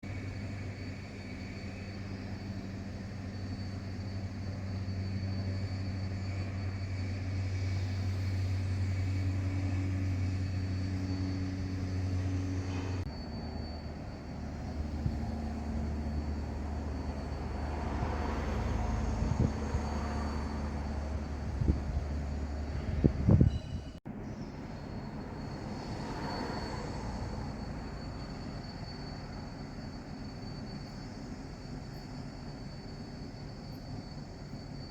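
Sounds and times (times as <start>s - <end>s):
ship engine drone: 0.0s - 34.9s.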